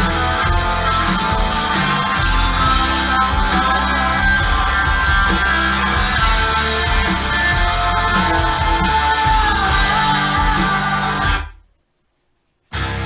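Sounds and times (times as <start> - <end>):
rock music: 0.0 - 11.6, 12.8 - 13.0.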